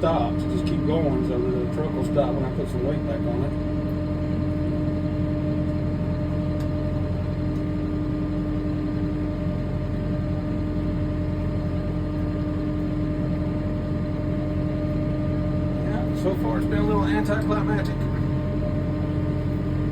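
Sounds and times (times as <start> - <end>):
constant whine: 0.0 - 19.9
tractor diesel engine idling: 0.0 - 19.9.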